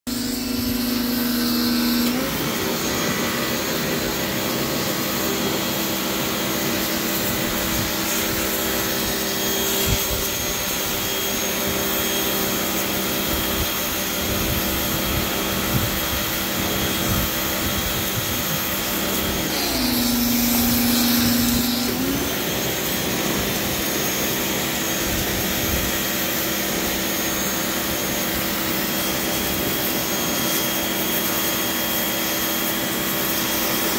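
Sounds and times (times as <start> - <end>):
pressure washer spraying wood: 0.1 - 33.9.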